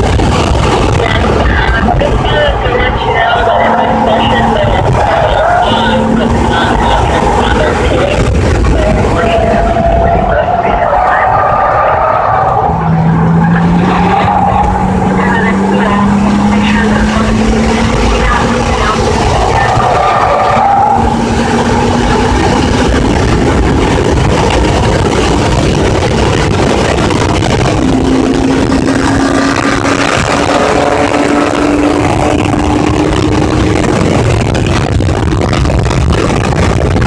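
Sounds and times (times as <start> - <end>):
car engine pulling: 0.0 - 37.0
road and wind noise: 0.0 - 37.0.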